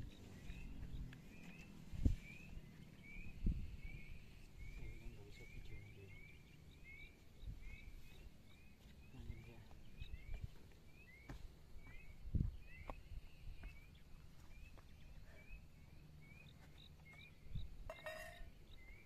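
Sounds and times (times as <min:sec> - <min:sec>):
low outdoor rumble: 0:00.0 - 0:18.8.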